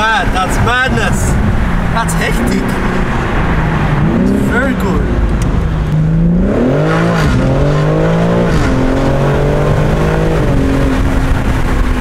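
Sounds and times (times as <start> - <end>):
car engine accelerating hard: 0.1 - 12.0.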